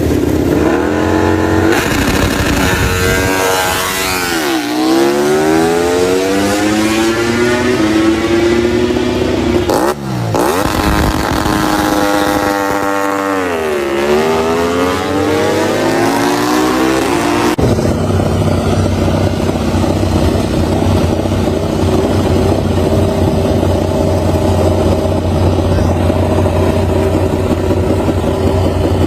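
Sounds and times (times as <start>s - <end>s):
race motorcycle engine revving: 0.0s - 29.0s.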